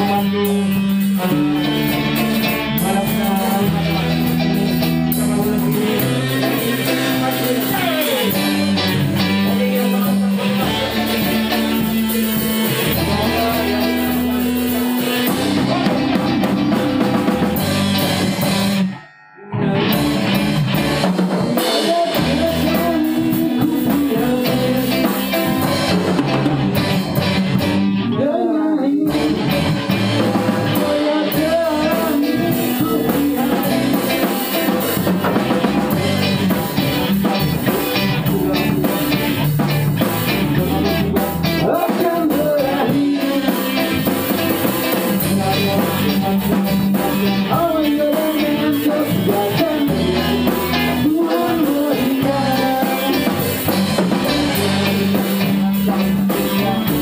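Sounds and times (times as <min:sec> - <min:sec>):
drum kit: 0:00.0 - 0:57.0
guitars: 0:00.0 - 0:57.0
person singing: 0:00.0 - 0:57.0.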